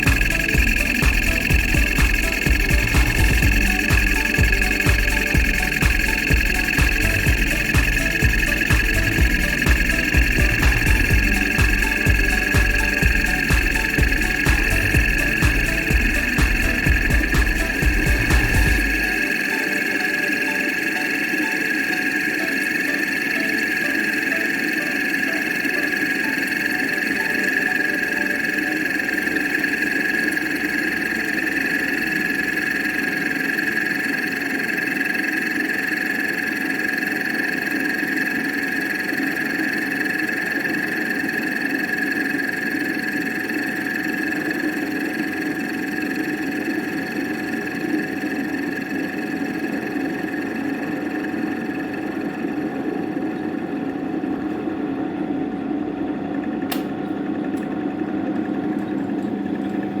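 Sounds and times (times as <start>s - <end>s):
router motor whine: 0.0s - 58.6s.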